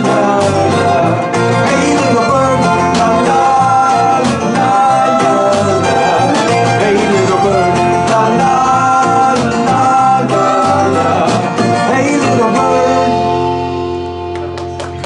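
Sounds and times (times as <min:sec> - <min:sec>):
voices singing in harmony: 0:00.0 - 0:13.9
live band with guitars: 0:00.0 - 0:15.0.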